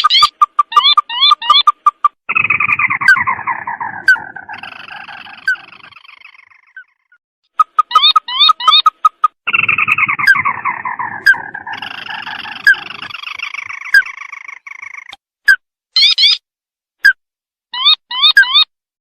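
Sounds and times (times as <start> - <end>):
crake calling with rattling trill: 0.0 - 15.2, 16.0 - 16.4.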